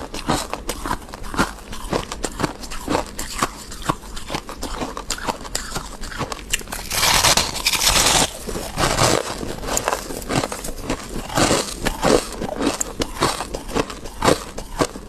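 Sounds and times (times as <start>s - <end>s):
crunchy chewing of frost: 0.0s - 15.0s.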